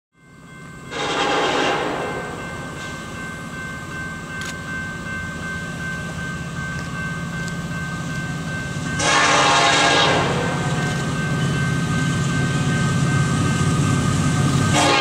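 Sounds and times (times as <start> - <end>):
diesel locomotives rumbling: 0.4 - 15.0.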